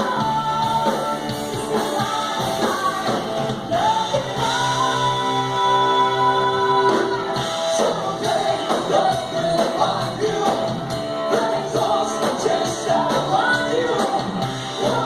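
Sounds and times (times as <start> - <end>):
steady drum beat: 0.0 - 5.7, 6.8 - 15.0
person singing: 0.0 - 15.0
rock and roll band playing: 0.0 - 15.0.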